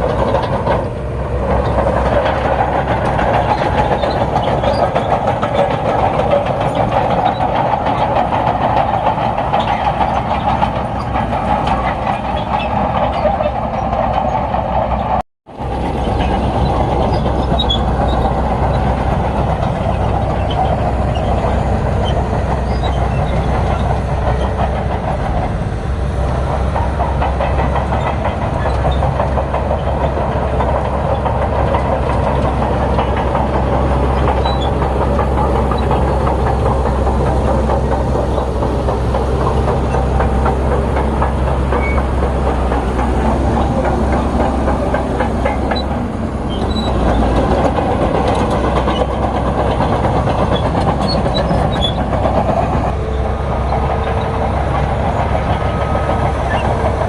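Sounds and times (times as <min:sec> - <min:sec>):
bulldozer diesel engine running: 0:00.0 - 0:57.0
steel tracks clanking: 0:00.0 - 0:57.0.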